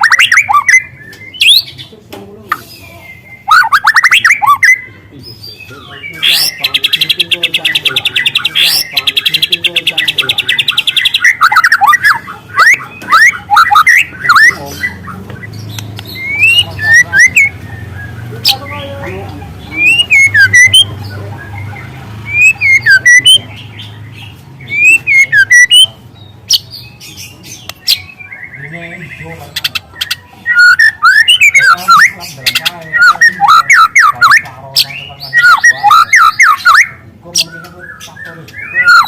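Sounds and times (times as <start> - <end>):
bird singing whistles and trills: 0.0 - 1.8, 2.7 - 18.9, 19.6 - 39.0.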